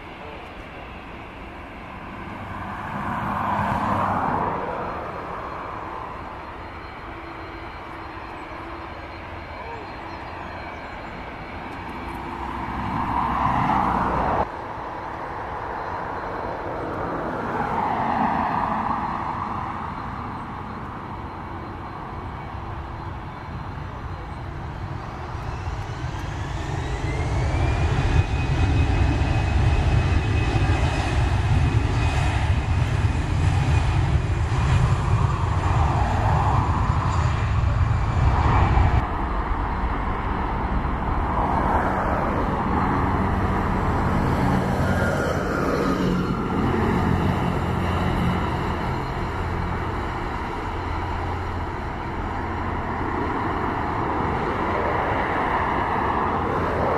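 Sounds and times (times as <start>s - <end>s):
jet engine whine: 0.0s - 56.9s
jet engines roaring: 0.0s - 56.9s.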